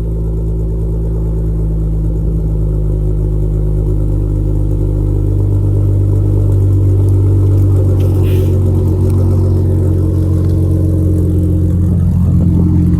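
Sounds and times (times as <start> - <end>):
car engine idling loud exhaust: 0.0 - 12.9.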